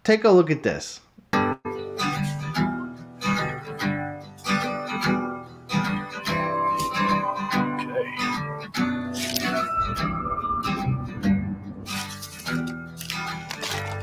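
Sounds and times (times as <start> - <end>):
plucked acoustic guitar music: 1.3 - 14.0.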